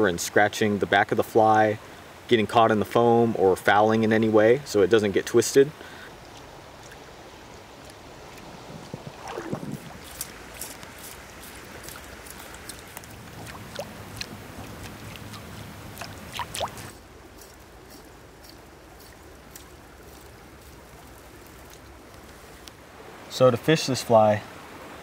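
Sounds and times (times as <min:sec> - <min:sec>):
running water: 0:00.0 - 0:25.0.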